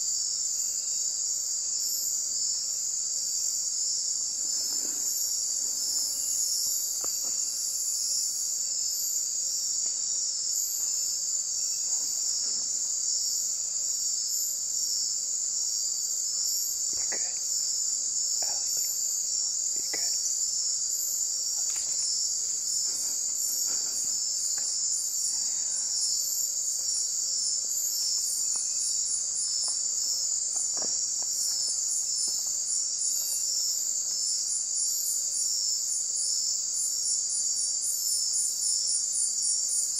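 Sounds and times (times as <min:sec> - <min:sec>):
insects chirring: 0:00.0 - 0:39.9
pulsing insect trill: 0:00.0 - 0:39.9.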